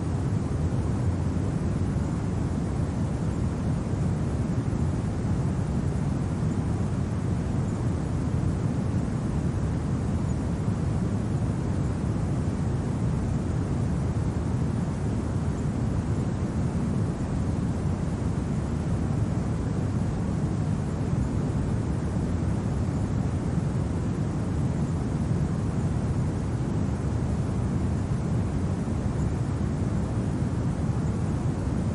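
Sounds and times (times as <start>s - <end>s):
low rumbling wind: 0.0s - 31.9s.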